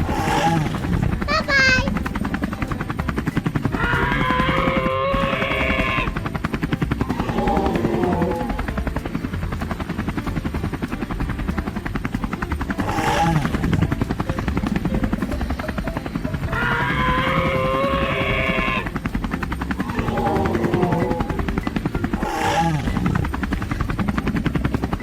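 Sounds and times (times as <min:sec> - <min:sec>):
rapid mechanical chattering: 0:00.0 - 0:25.0.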